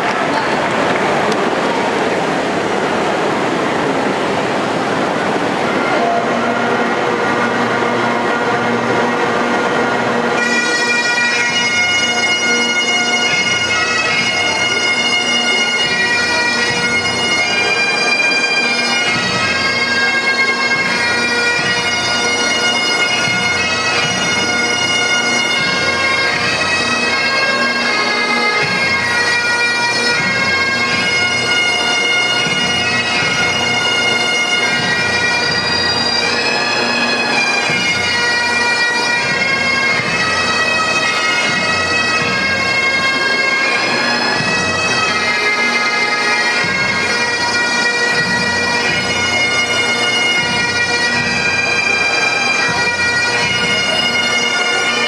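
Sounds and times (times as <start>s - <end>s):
bagpipe band playing: 0.0s - 55.0s.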